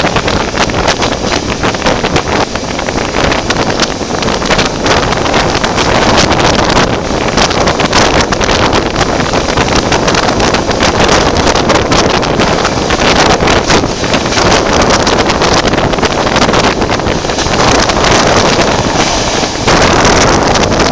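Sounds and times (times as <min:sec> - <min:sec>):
train running on track: 0:00.0 - 0:20.9
wind buffeting microphone: 0:00.0 - 0:20.9.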